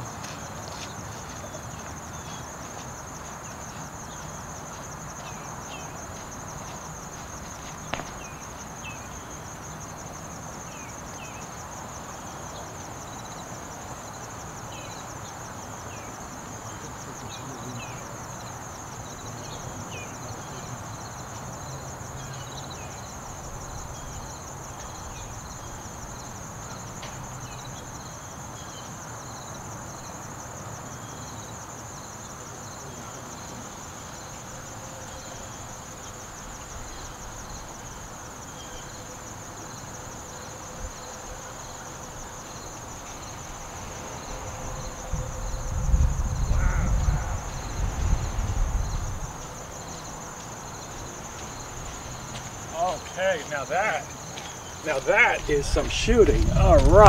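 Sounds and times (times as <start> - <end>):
insects trilling: 0.0 - 57.0
outdoor noise haze: 0.0 - 57.0.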